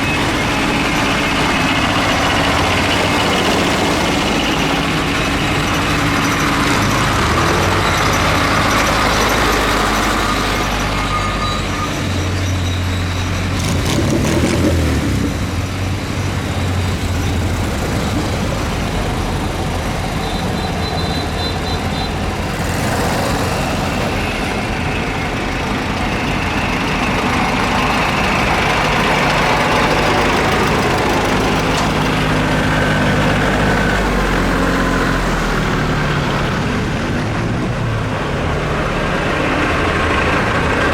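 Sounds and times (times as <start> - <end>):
tractor engines running: 0.0 - 40.9.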